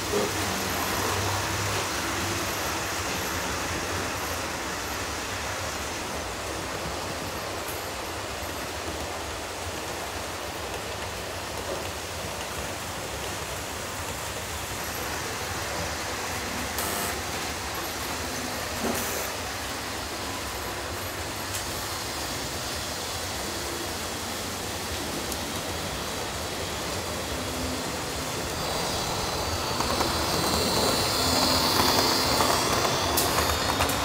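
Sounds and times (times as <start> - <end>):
model train wheels on rails: 0.0 - 34.0.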